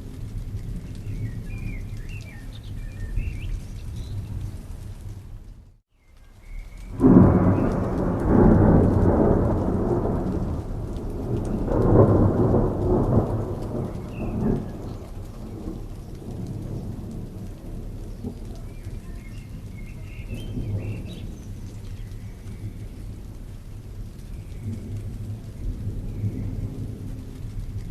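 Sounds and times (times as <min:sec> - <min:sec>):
thunder rolling and rumbling: 0:00.0 - 0:05.5, 0:06.7 - 0:27.9
steady rain: 0:00.0 - 0:27.9.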